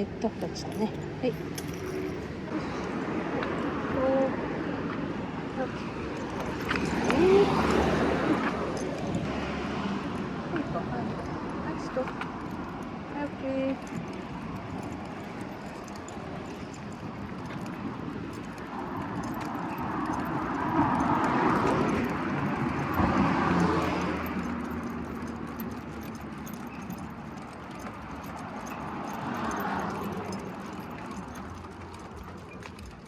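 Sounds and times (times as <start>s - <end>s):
faint light ticks and jingling: 0.0s - 3.6s, 5.7s - 33.0s
vehicle passing: 0.0s - 33.0s.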